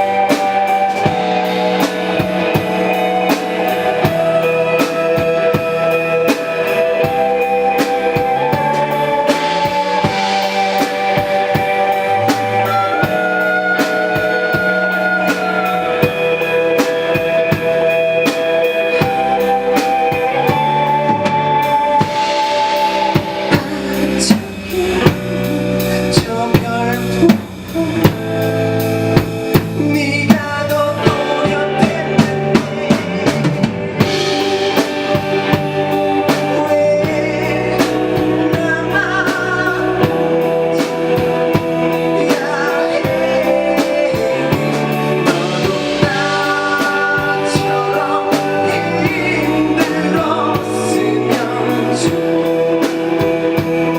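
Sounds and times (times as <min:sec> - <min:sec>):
live band playing: 0:00.0 - 0:53.9.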